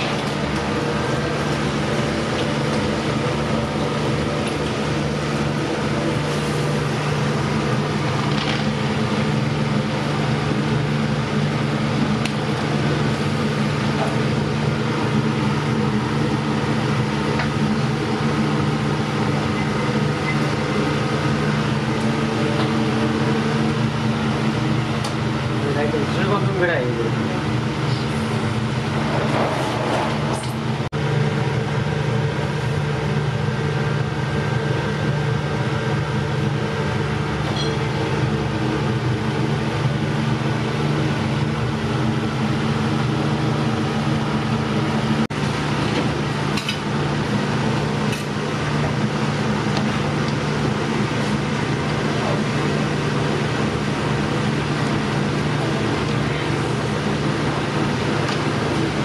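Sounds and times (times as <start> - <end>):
water boiling in pot: 0.0 - 26.5, 30.2 - 59.0
stove and ventilation hum: 0.0 - 59.0.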